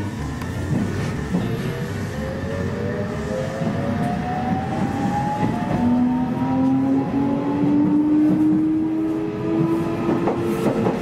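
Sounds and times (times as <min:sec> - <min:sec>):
train running gear rumble: 0:00.0 - 0:11.0.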